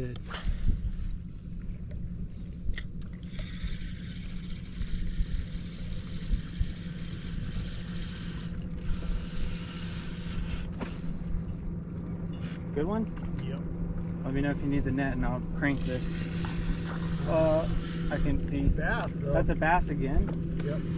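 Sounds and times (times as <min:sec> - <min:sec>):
boat motor humming: 0:00.0 - 0:20.9.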